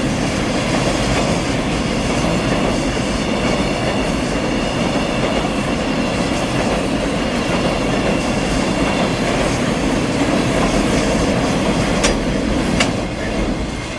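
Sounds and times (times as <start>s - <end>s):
train wagons rumbling on rails: 0.0s - 13.9s.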